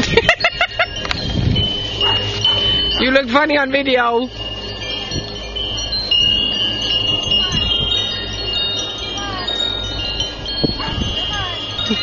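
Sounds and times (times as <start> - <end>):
wind chimes ringing: 0.0 - 12.0.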